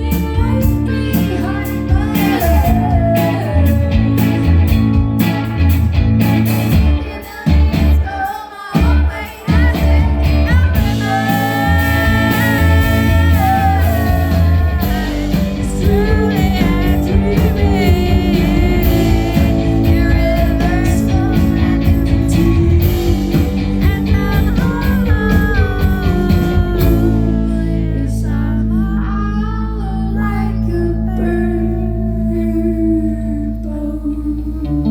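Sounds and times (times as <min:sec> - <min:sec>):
woman singing: 0:00.0 - 0:05.7, 0:06.8 - 0:34.9
live rock band: 0:00.0 - 0:29.4.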